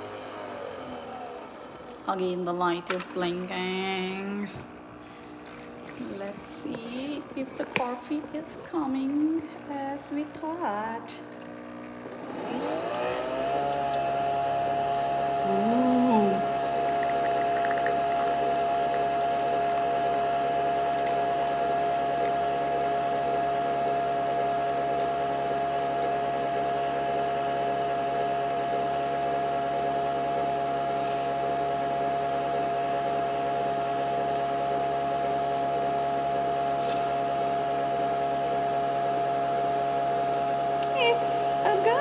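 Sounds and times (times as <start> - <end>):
coffee machine motor hum: 3.9 - 42.0.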